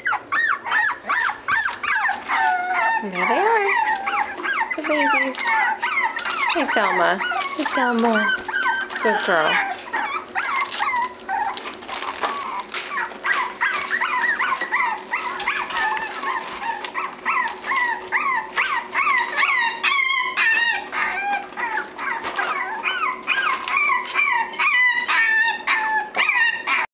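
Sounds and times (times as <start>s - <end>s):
puppies whining and yipping: 0.0s - 26.9s.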